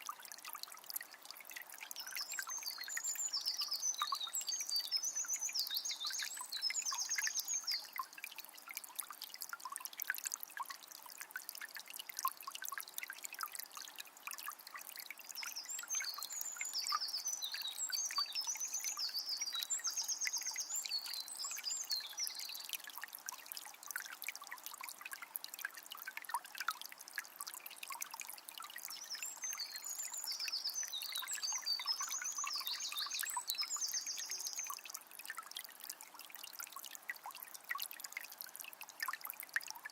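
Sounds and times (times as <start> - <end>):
spring water trickling: 0.0 - 39.9.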